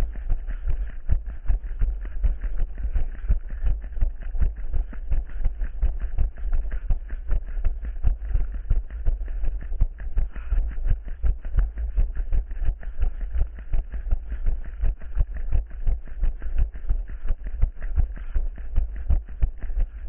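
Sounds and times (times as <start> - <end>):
running footsteps: 0.0 - 20.0
steady low rumble: 0.0 - 20.0.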